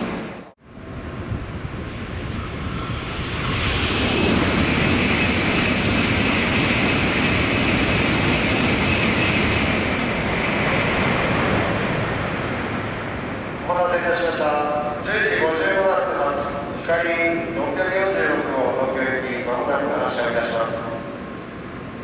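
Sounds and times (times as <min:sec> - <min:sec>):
train rushing along track: 0:00.0 - 0:22.0.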